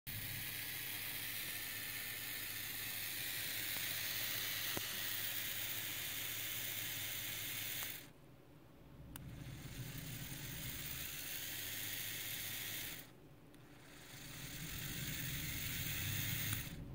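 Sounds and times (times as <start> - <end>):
low hum: 0.1 - 16.9.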